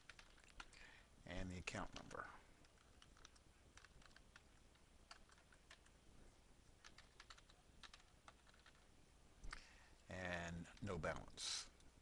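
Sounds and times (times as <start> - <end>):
faint keyboard typing: 0.0 - 0.9, 1.6 - 6.0, 6.7 - 11.9.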